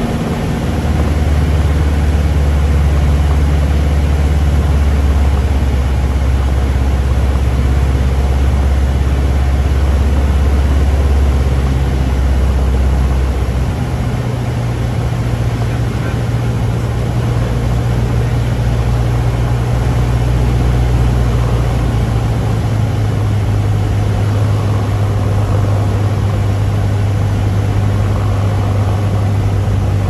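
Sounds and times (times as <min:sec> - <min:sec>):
airplane engine and propeller droning: 0:00.0 - 0:30.0.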